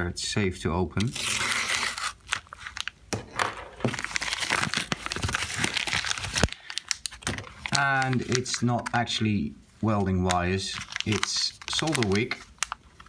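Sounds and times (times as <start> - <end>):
package tearing: 1.0 - 9.0, 10.3 - 13.0
packaging crinkling and crackling: 1.0 - 9.2, 9.9 - 13.0.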